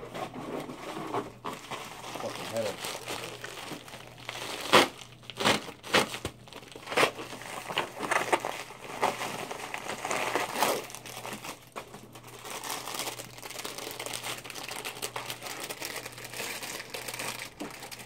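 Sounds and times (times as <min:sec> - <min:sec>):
plastic bag crinkling: 0:00.4 - 0:18.0.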